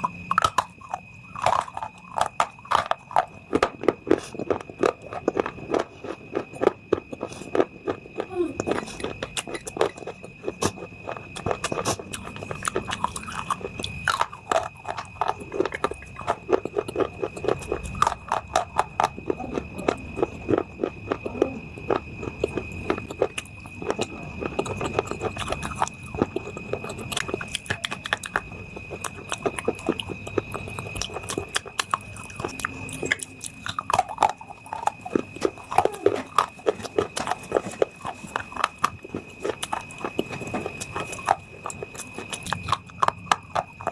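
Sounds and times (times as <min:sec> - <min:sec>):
chewing crunchy clay: 0:00.0 - 0:43.9.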